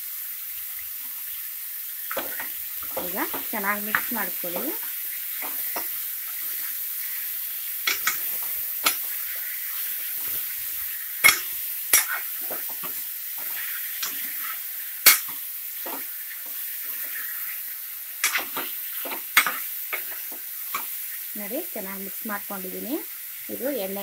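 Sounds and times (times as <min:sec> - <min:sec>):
chicken sizzling in oil: 0:00.0 - 0:24.0.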